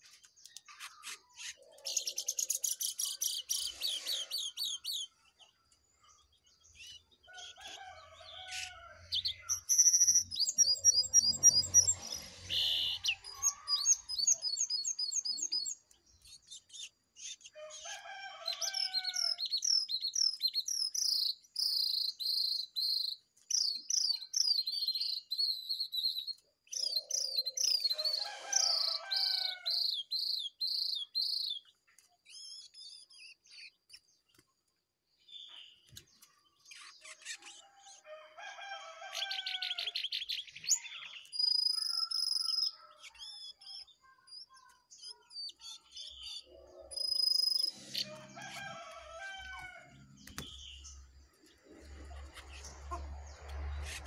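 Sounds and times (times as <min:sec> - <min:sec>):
birds chirping: 0:00.0 - 0:38.2, 0:38.8 - 0:54.0.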